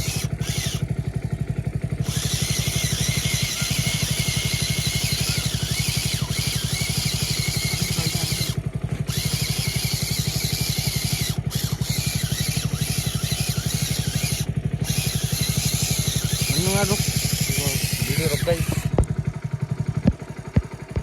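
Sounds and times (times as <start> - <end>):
engine running with low thudding: 0.0 - 21.0.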